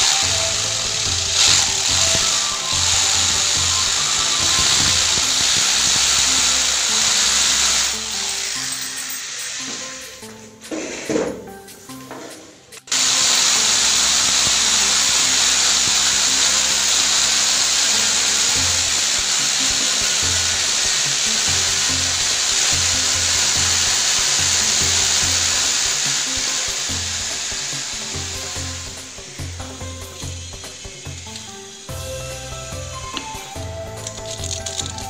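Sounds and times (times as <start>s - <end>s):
electric drill whirring: 0.0s - 10.3s, 12.9s - 35.0s.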